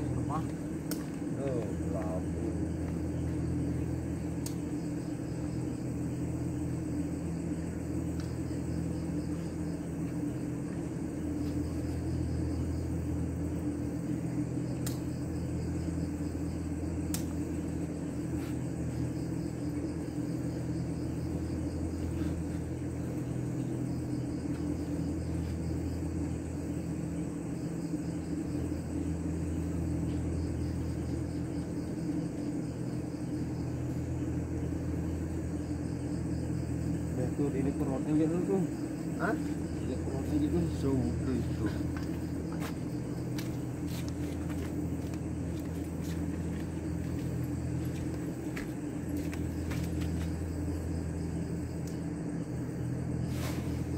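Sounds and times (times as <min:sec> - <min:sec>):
crickets chirping: 0:00.0 - 0:53.9
steady low hum: 0:00.0 - 0:53.9.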